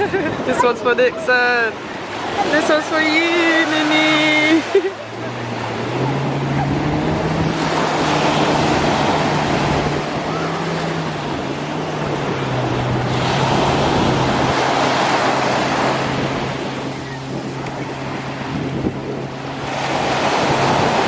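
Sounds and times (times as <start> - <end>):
low engine drone: 0.0 - 21.0
water rushing: 0.0 - 21.0
wind buffeting microphone: 0.0 - 21.0.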